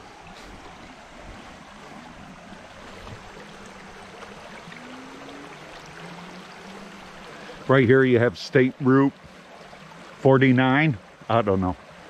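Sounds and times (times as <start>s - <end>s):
creek rushing over riffles: 0.0s - 11.7s.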